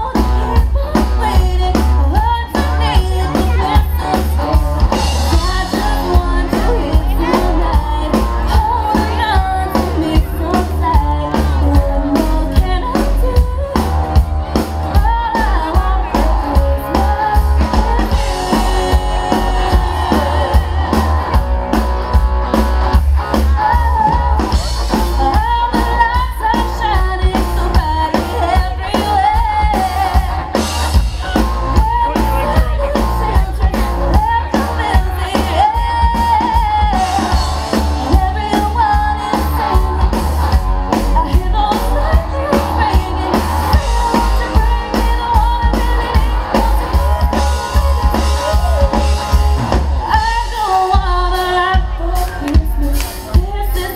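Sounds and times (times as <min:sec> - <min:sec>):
person singing into a microphone: 0:00.0 - 0:21.8, 0:23.2 - 0:53.9
drum kit: 0:00.0 - 0:53.9
electric guitar: 0:00.0 - 0:53.9.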